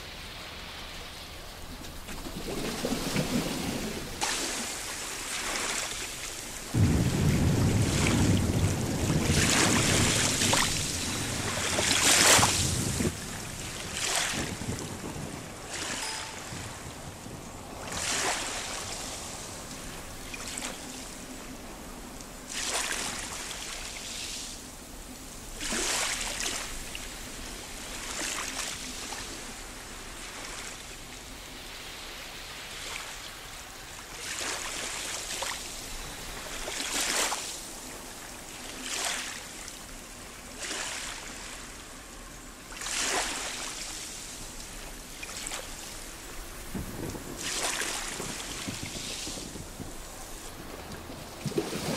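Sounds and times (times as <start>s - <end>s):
small waves washing over rocks: 0.6s - 16.6s, 17.8s - 20.8s, 22.5s - 24.5s, 25.6s - 29.6s, 33.9s - 41.8s, 42.7s - 51.9s.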